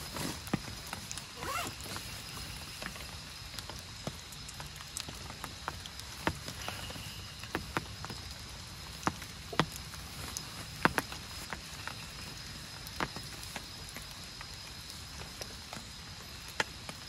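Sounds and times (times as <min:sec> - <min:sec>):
rain on a tent: 0:00.0 - 0:17.0.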